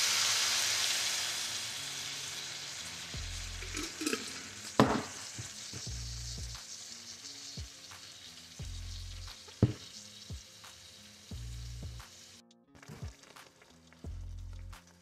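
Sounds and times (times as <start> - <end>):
meat sauce sizzling in a skillet: 0.0 - 15.0
soft background music: 0.0 - 15.0.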